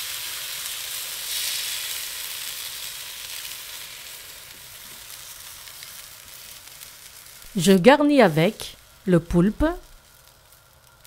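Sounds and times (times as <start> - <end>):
batter sizzling in hot pan: 0.0 - 11.0.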